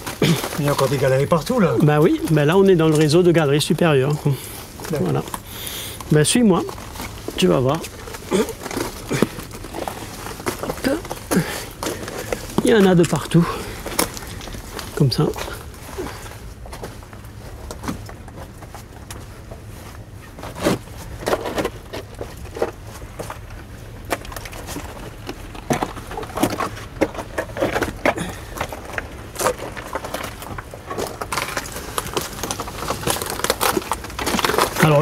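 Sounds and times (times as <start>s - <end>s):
footsteps on rough rock: 0.0s - 35.0s
low steady rumble: 0.0s - 35.0s.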